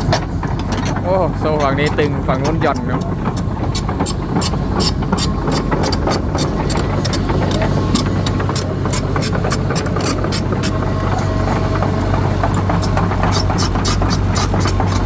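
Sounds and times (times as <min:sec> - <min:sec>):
diesel engine running: 0:00.0 - 0:15.0
steel track chain clicking: 0:00.0 - 0:15.0.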